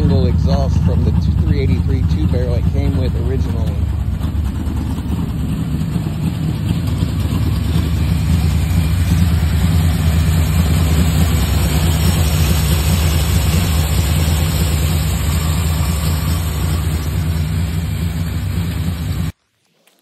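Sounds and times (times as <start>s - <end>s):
car engine idling: 0.0s - 19.4s.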